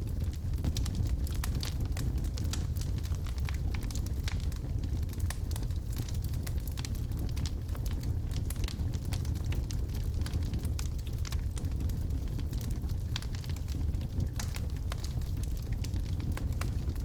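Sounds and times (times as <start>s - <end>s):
low rumble of flames: 0.0s - 17.0s
logs crackling and popping: 0.1s - 17.0s.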